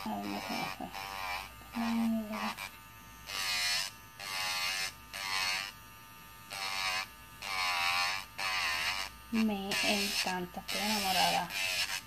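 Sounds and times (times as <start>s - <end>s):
electric nail drill whining: 0.0s - 12.0s.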